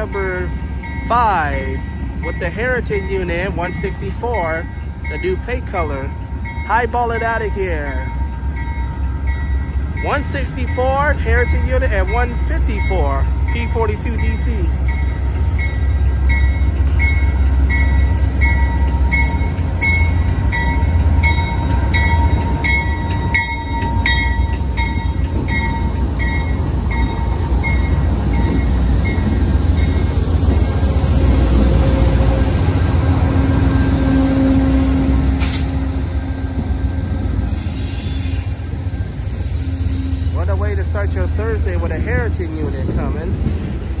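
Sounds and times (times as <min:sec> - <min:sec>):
diesel engine rumbling: 0:00.0 - 0:44.0
locomotive bell ringing: 0:00.0 - 0:44.0
train cars rolling by: 0:00.0 - 0:44.0.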